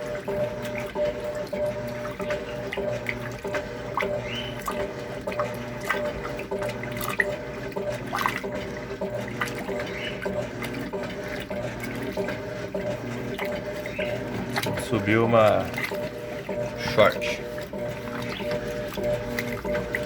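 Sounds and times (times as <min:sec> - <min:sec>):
washing machine motor hum: 0:00.0 - 0:20.0
water sloshing: 0:00.0 - 0:20.0.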